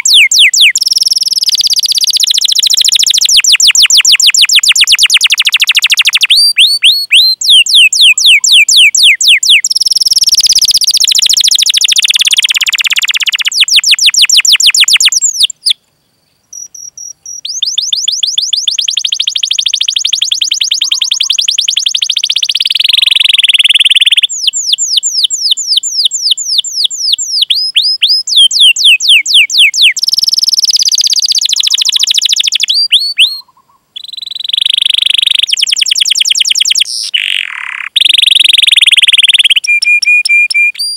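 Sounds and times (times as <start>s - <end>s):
canary singing: 0.0s - 15.8s, 16.5s - 40.9s.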